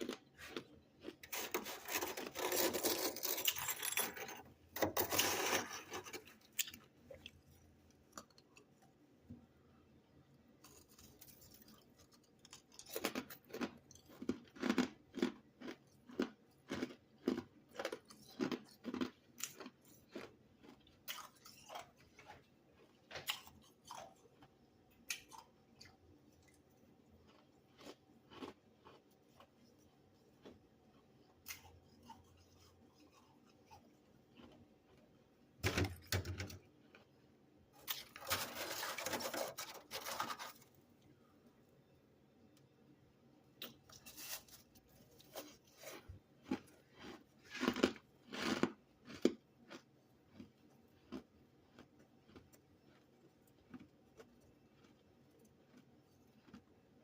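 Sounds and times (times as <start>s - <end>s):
chewing crunchy frost: 0.0s - 8.8s, 10.6s - 35.6s, 36.5s - 41.3s, 43.6s - 57.0s.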